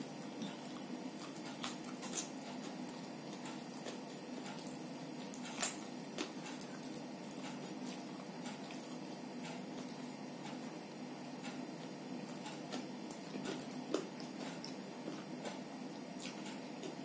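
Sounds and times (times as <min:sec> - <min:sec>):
crunchy vegetable chewing: 0:00.0 - 0:09.8, 0:11.8 - 0:17.0
steady low hum: 0:00.0 - 0:17.0.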